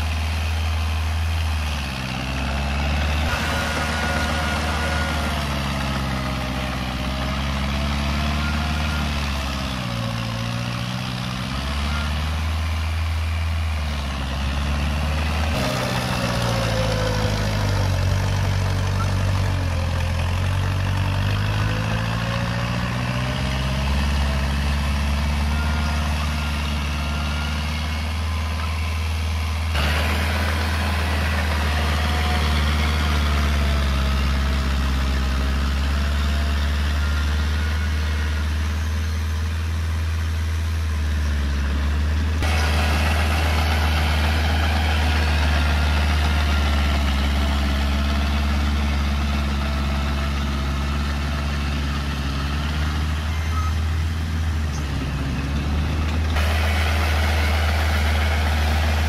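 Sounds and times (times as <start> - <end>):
heavy diesel machinery engine: 0.0 - 59.0.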